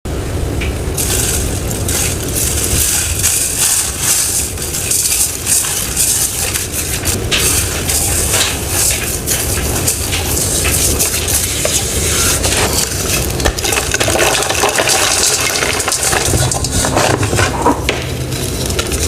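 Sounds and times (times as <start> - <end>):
crunching and crackling: 0.6 - 19.0.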